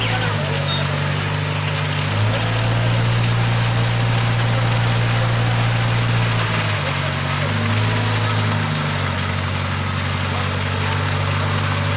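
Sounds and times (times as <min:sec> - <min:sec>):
concrete mixer engine running: 0:00.0 - 0:11.9.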